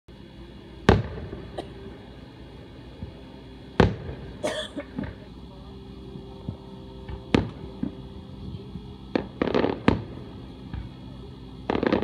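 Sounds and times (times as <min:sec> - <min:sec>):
crackling fireworks bangs: 0:00.8 - 0:05.3, 0:06.4 - 0:12.0
fireworks bursting: 0:00.8 - 0:05.4, 0:06.2 - 0:12.0.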